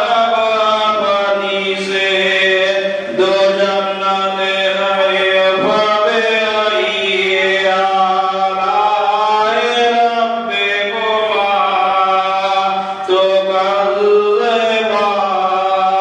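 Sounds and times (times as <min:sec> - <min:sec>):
man chanting into a microphone: 0:00.0 - 0:16.0.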